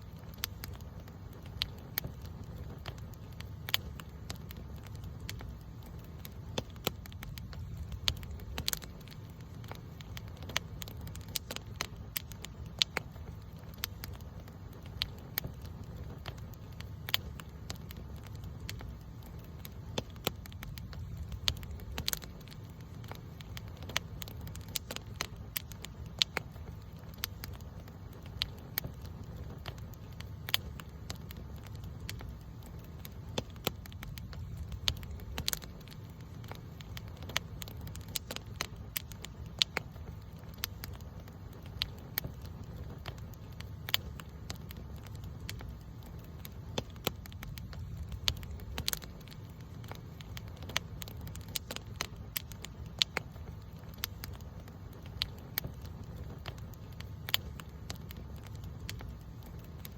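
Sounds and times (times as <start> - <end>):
campfire crackling and popping: 0.0 - 59.9
fire low rumble: 0.0 - 59.9.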